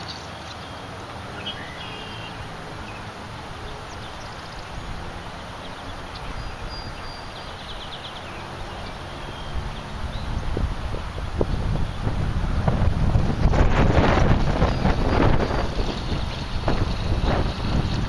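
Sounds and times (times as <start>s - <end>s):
wind over rippling water: 0.0s - 18.0s
wind buffeting microphone: 2.3s - 18.0s.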